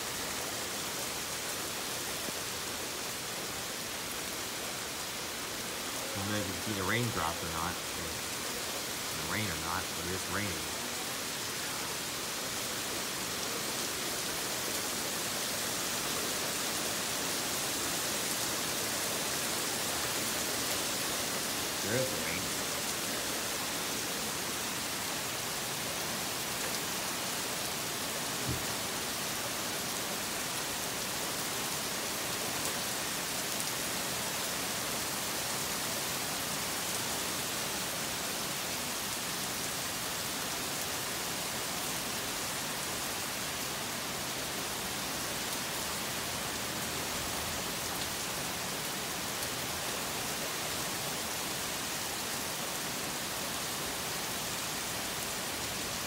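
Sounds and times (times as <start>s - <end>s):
hard rain falling: 0.0s - 56.0s.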